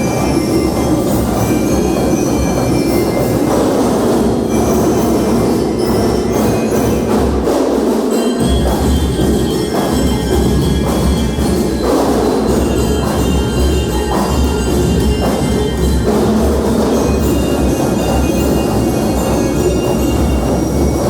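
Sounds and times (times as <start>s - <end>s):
bell-lyre melody: 0.0s - 21.0s
marching band drumming: 0.0s - 21.0s.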